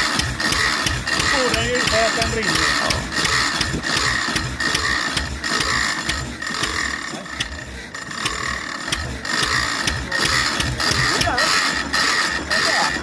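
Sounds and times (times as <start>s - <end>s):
engine beat: 0.0s - 13.0s
stationary engine clicking: 0.0s - 13.0s.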